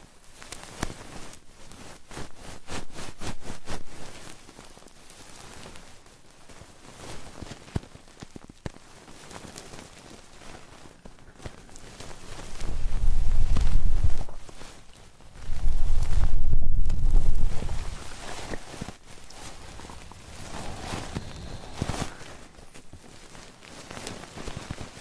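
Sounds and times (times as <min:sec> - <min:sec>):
crackling and scratching at microphone: 0:00.0 - 0:25.0.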